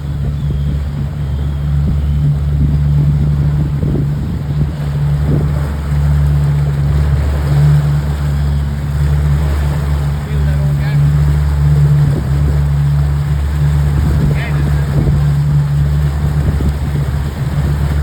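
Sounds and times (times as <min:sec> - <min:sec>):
motorboat engine droning: 0:00.0 - 0:18.0
water splashing along hull: 0:00.0 - 0:18.0.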